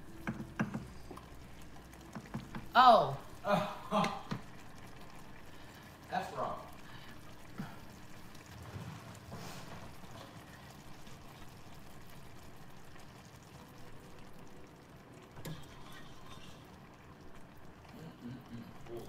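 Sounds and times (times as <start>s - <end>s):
faint simmering in a pan: 0.0s - 19.0s.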